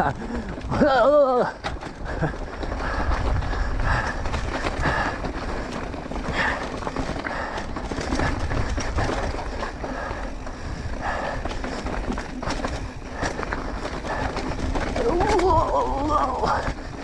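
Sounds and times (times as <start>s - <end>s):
bike knocks and rattles: 0.0s - 17.0s
bike tyres rumbling over dirt: 0.0s - 17.0s.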